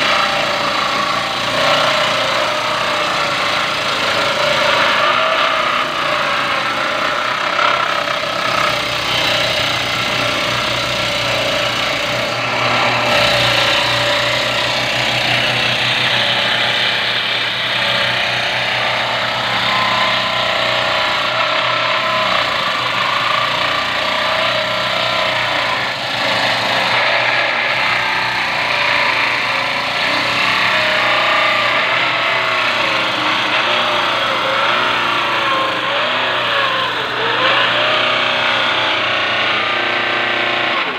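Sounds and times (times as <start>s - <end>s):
electric power tool cutting wood: 0.0s - 40.9s.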